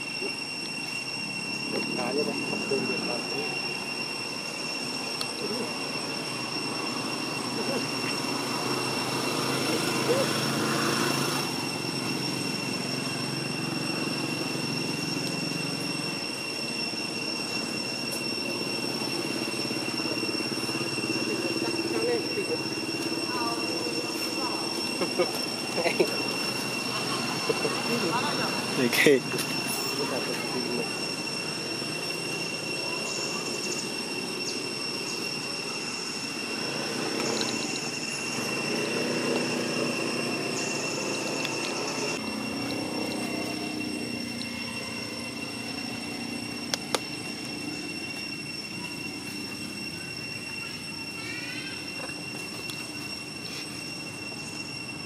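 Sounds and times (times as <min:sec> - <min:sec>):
high-pitched tones: 0:00.0 - 0:55.0
low droning hum: 0:00.5 - 0:53.5.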